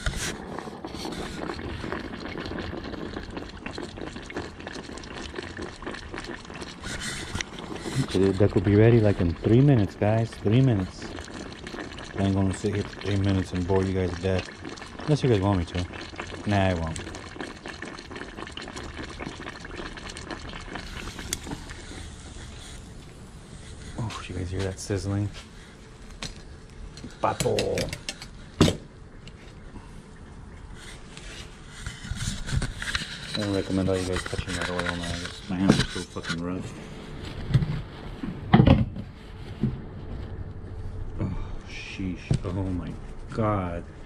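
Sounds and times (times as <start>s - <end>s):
oil bubbling and sizzling: 0.0s - 36.3s.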